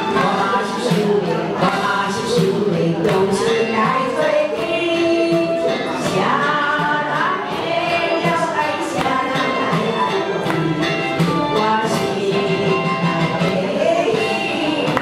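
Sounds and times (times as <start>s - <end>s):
karaoke backing track: 0.0s - 15.0s
woman singing into a microphone: 0.0s - 15.0s.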